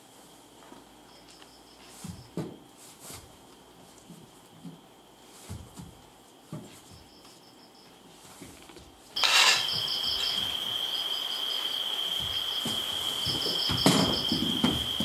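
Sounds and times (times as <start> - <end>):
crickets trilling and chirping: 0.0 - 15.0.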